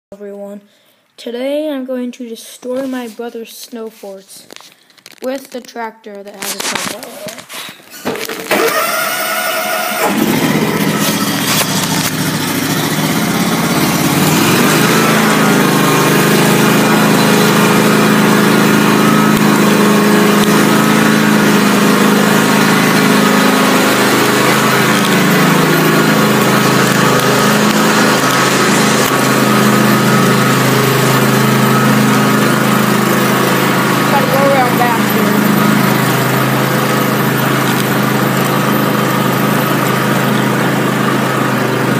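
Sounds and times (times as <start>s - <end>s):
lawn tractor engine running: 8.0s - 41.9s.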